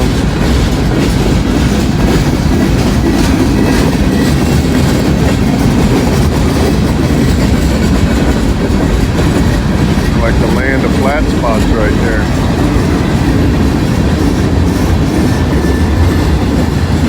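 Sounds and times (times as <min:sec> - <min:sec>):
clickety-clack over rail joints: 0:00.0 - 0:17.0
train wheels rumbling on rails: 0:00.0 - 0:17.0.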